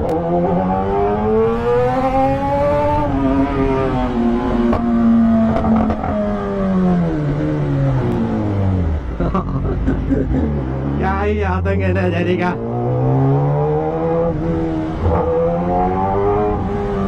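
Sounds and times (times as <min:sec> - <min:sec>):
motorcycle engine revving: 0:00.0 - 0:09.2, 0:12.3 - 0:17.0.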